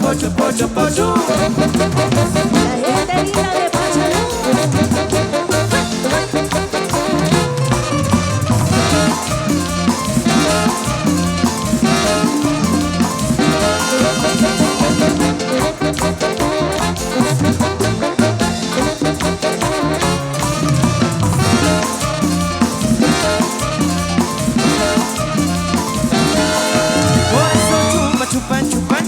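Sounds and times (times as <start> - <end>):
live band playing dance tune: 0.0 - 29.0.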